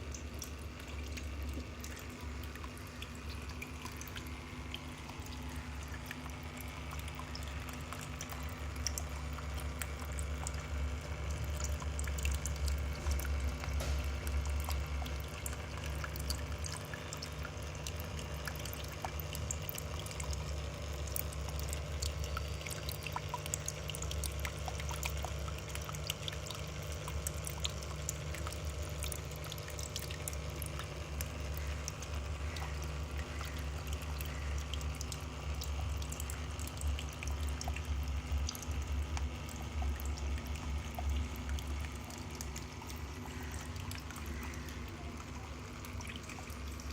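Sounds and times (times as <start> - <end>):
water trickling and dripping: 0.0 - 46.9.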